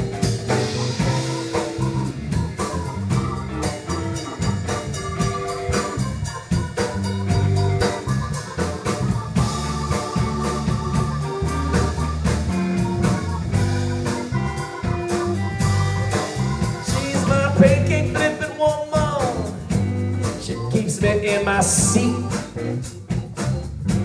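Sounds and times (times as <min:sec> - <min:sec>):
bass: 0:00.0 - 0:24.0
drum kit steady beat: 0:00.0 - 0:24.0
electric guitar: 0:00.0 - 0:24.0
keyboard: 0:00.0 - 0:24.0.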